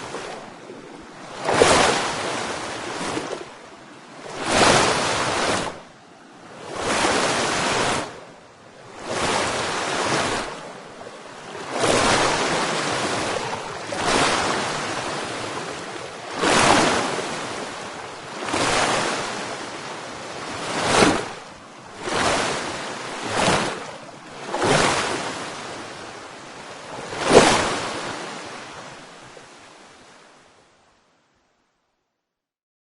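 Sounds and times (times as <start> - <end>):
water rushing in surges: 0.0 - 30.4.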